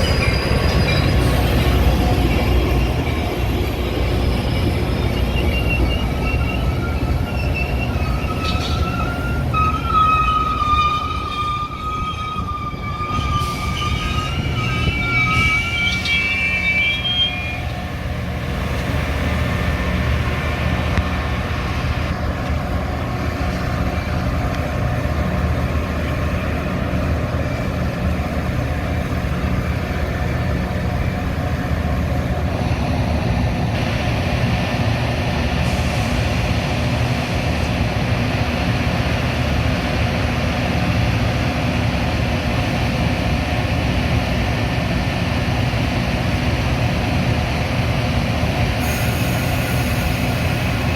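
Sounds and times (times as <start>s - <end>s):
train rumbling along track: 0.0s - 50.9s.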